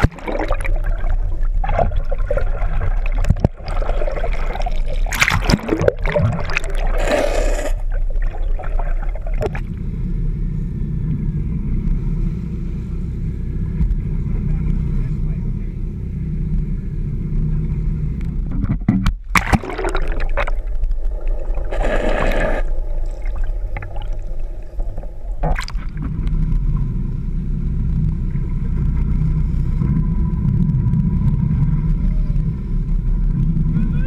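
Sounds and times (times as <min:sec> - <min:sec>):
boat engine running: 0:00.0 - 0:34.0
water splashing against hull: 0:00.0 - 0:34.0.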